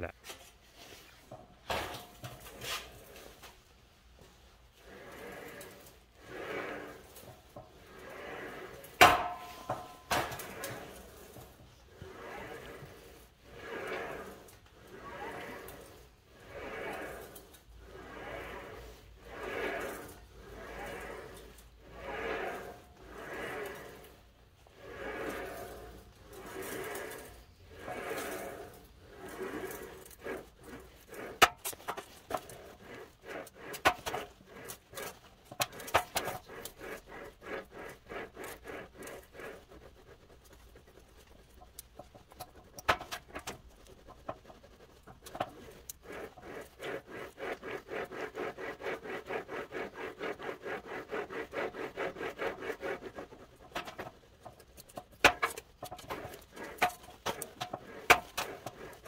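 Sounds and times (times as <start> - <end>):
sheet steel rolling through wheel: 4.2 - 59.0.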